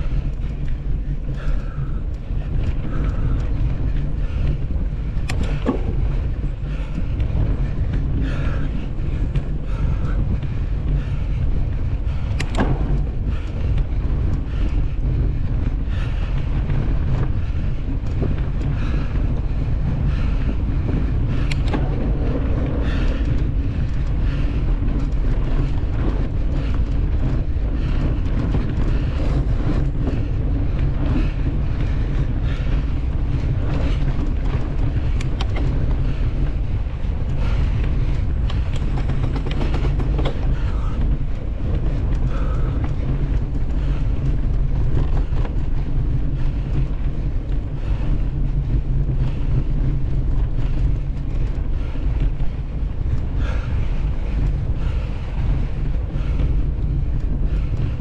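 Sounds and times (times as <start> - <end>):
bike clicks and rattles: 0.0 - 58.0
wind rumble on microphone: 0.0 - 58.0.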